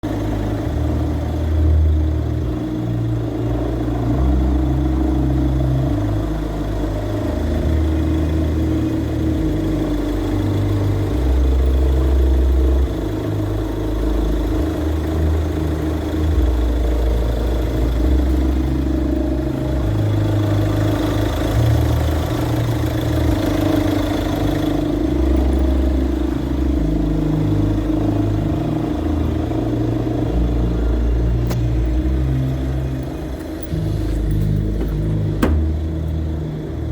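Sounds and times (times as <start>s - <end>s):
alternator pulley noise: 0.0s - 36.9s
car engine running: 0.0s - 36.9s.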